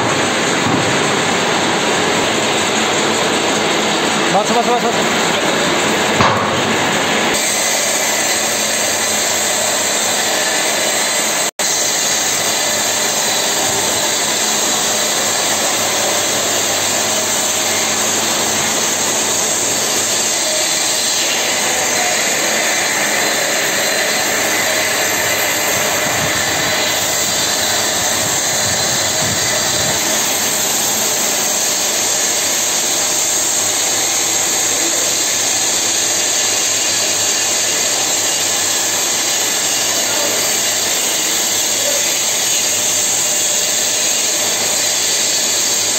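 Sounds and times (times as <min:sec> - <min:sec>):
workshop machinery whirring: 0:00.0 - 0:45.9.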